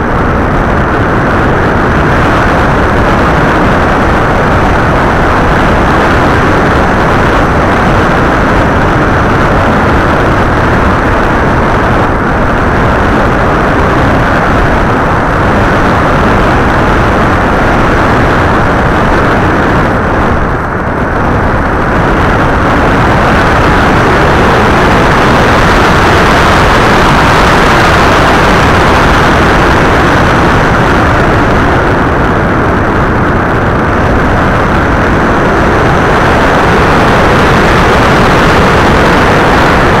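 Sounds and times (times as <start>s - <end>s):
wind rush: 0.0s - 40.0s.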